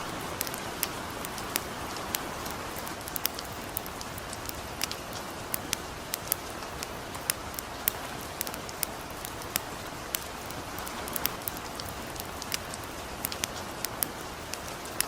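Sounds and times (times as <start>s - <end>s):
campfire crackling and popping: 0.0s - 15.0s
light rain hissing: 0.0s - 15.0s.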